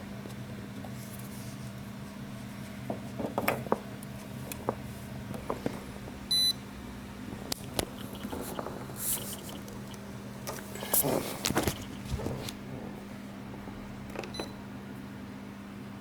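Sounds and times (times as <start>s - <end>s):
fridge compressor humming: 0.0s - 16.0s.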